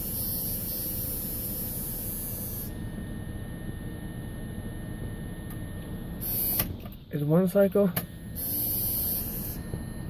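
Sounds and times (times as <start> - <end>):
low rumble in truck cab: 0.0 - 10.0.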